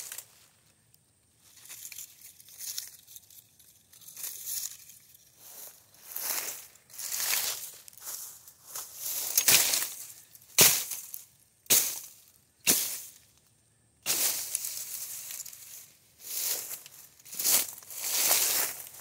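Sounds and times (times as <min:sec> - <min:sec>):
dry leaves rustling underfoot: 0:00.0 - 0:00.7, 0:01.3 - 0:13.4, 0:14.0 - 0:19.0.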